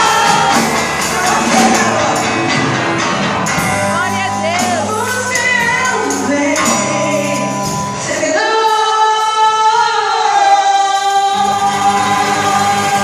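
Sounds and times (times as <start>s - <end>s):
group of singers: 0.0s - 3.6s, 4.5s - 13.0s
worship band playing: 0.0s - 13.0s.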